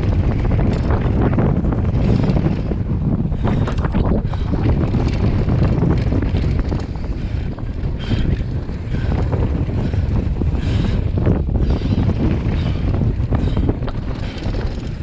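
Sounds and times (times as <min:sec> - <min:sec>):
bike clicking and rattling: 0:00.0 - 0:15.0
wind buffeting microphone: 0:00.0 - 0:15.0.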